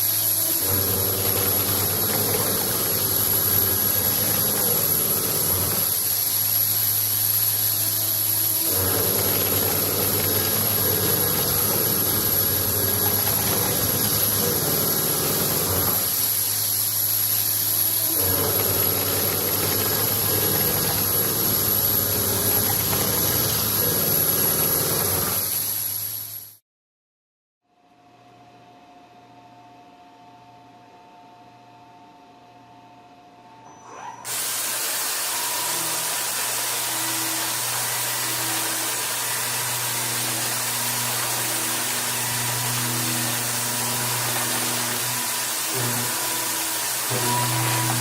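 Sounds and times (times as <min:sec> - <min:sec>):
machine high whine: 0:00.0 - 0:25.8, 0:33.6 - 0:48.0.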